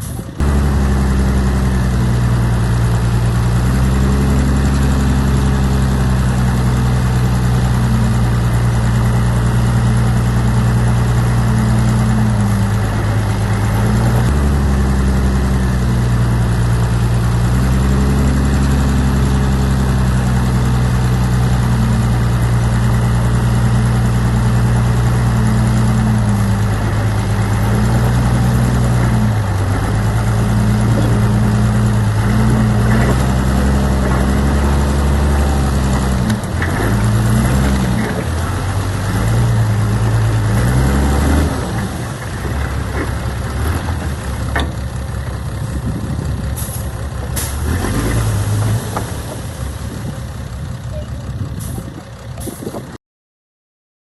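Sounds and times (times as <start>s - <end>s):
heavy diesel engine under load: 0.0s - 53.0s.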